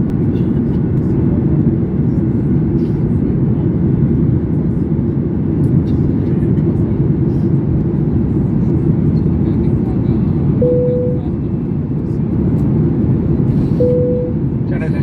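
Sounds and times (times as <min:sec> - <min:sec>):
jet engine cabin roar: 0:00.0 - 0:15.0.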